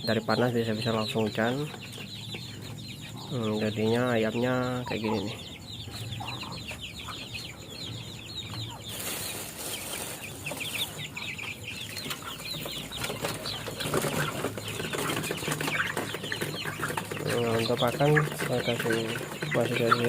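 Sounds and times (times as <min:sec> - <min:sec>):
young chickens peeping: 0:00.0 - 0:20.0.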